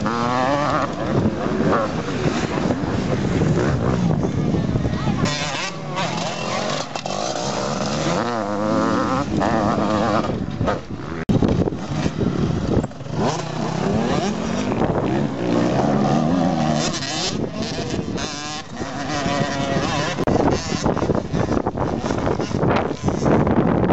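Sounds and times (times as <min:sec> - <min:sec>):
motocross bike engines revving: 0:00.0 - 0:23.9.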